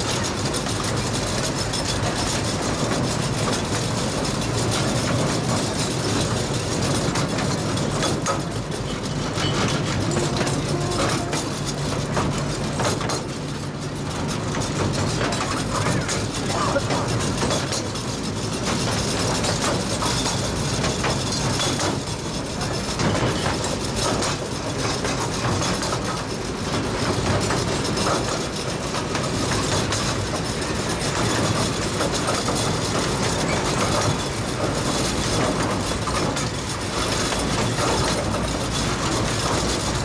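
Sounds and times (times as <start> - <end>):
train cars rumbling on rails: 0.0 - 40.0.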